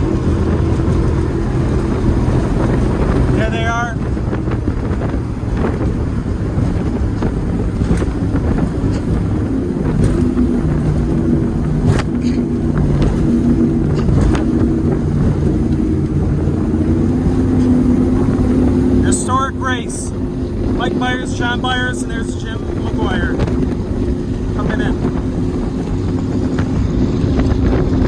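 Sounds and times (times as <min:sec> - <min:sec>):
powerboat engine drone: 0:00.0 - 0:28.0
wind noise on microphone: 0:00.0 - 0:28.0.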